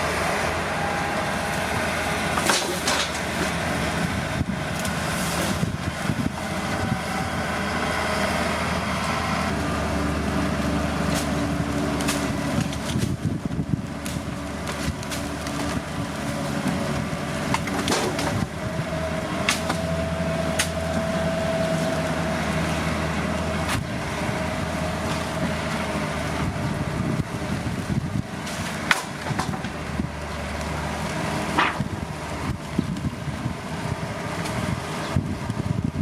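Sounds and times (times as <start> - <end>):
diesel earthmoving machinery running: 0.0 - 36.0.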